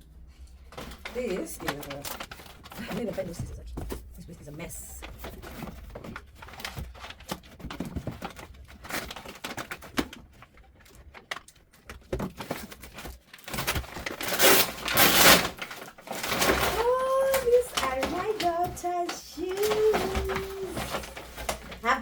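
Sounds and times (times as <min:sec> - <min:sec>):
packaging rustling: 0:00.7 - 0:22.0.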